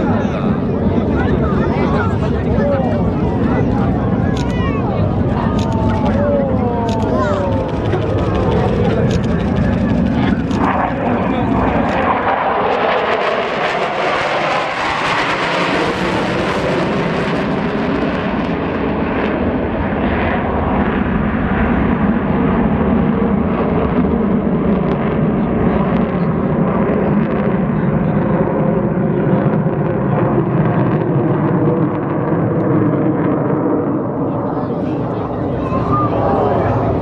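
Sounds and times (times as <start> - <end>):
jet aircraft flying past: 0.0 - 37.0.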